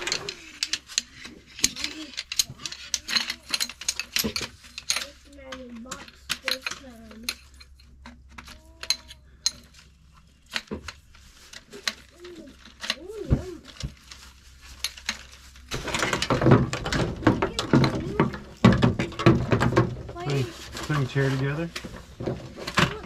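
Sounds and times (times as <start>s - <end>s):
camp gear clinking and clattering: 0.0s - 23.0s.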